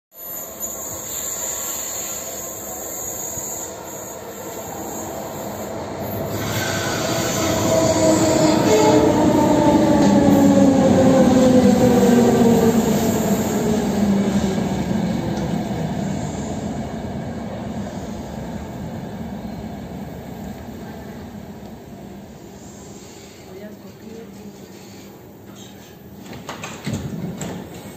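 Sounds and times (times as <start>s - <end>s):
falling train whine: 0.1s - 23.5s
train rushing rumble: 1.0s - 23.7s.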